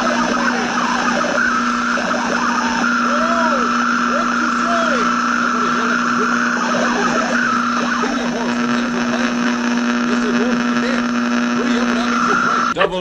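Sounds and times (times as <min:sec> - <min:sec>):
static hiss: 0:00.0 - 0:12.8
constant hum: 0:00.0 - 0:13.0.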